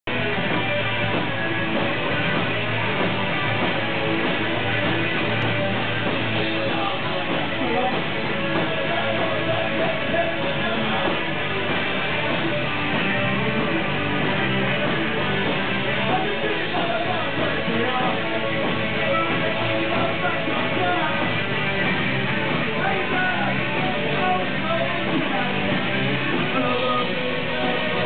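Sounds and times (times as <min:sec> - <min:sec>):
punk band playing live: 0:00.0 - 0:28.0.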